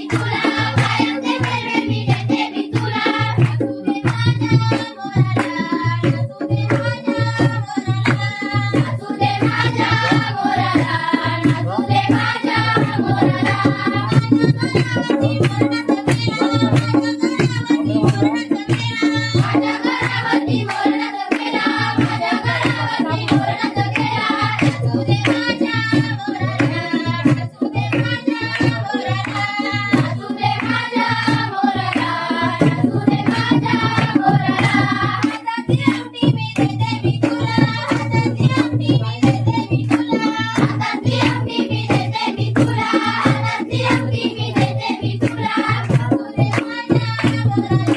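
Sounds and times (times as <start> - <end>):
hand drum beat: 0.0 - 47.9
people singing folk song: 0.0 - 47.9.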